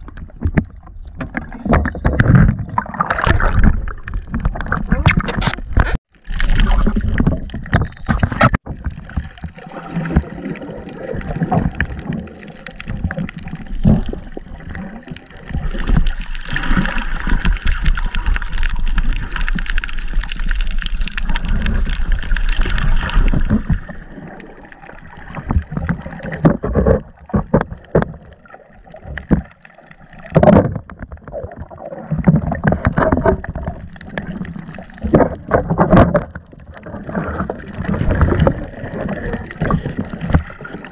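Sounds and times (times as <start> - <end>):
underwater water rushing and gurgling: 0.0 - 40.9.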